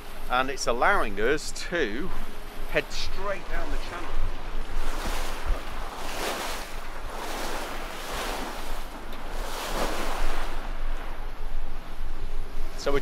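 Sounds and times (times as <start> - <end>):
wind buffeting microphone: 0.0 - 12.9
water rushing along a hull: 0.0 - 13.0.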